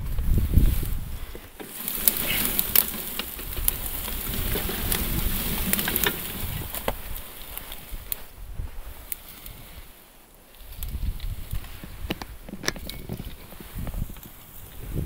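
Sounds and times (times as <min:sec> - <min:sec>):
grass and brush crackling: 0:00.0 - 0:15.0.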